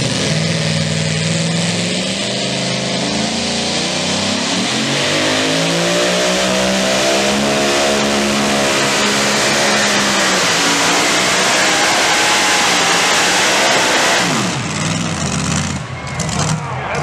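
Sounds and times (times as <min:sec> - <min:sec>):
supercharged engine revving: 0:00.0 - 0:16.6.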